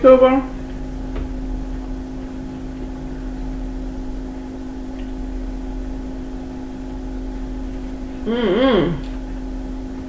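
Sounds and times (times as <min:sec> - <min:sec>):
background hum with tones: 0:00.0 - 0:10.0.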